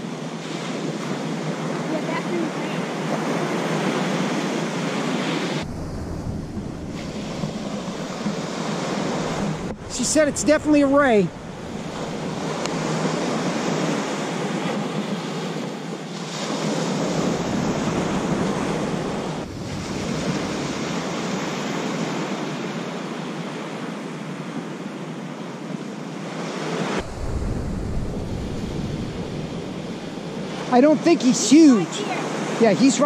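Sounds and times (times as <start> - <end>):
wind rumbling on microphone: 0.0 - 23.5, 25.7 - 30.8
ocean surf breaking: 0.0 - 33.0.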